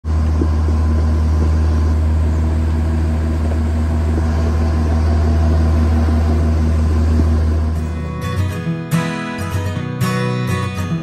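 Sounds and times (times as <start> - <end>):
vehicle engine droning: 0.0 - 8.9.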